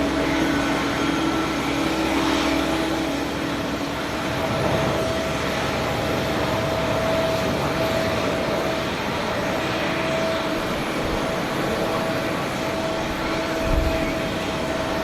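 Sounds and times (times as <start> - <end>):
faint whine: 0.0 - 15.0
jet aircraft noise: 0.0 - 15.0.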